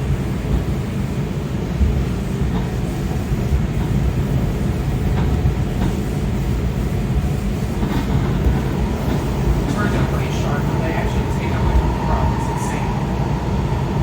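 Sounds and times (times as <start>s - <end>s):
train car rumbling on track: 0.0s - 14.0s.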